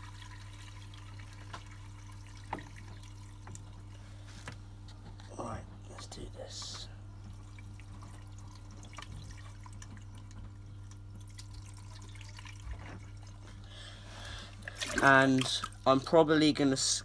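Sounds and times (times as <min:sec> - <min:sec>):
water trickling and dripping: 0:00.0 - 0:04.1, 0:06.0 - 0:16.1
steady low hum: 0:00.1 - 0:17.0.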